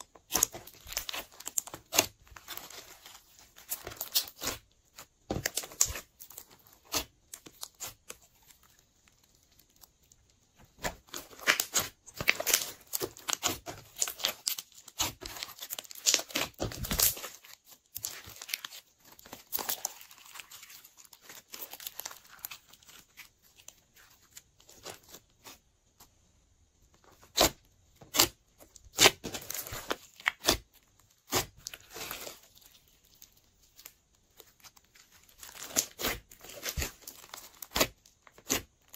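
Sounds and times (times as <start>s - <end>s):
slime crackling and popping: 0.0s - 25.6s, 27.2s - 38.9s.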